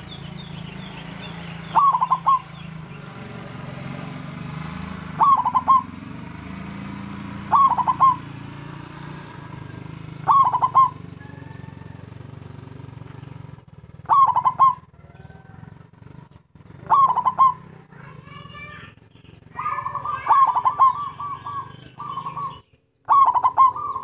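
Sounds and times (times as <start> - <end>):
dove cooing: 1.5 - 3.9, 5.1 - 6.0, 7.4 - 24.0.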